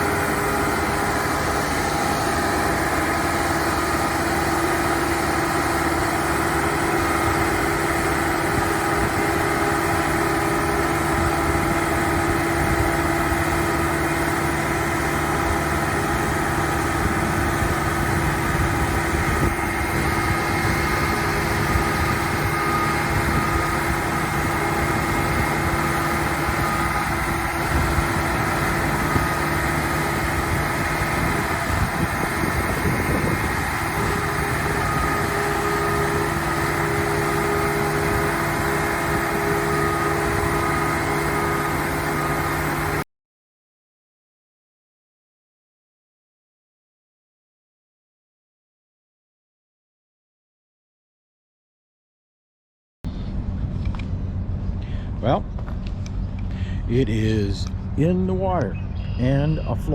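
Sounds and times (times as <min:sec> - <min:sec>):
engine idling: 0:00.0 - 0:43.0, 0:53.1 - 0:59.9.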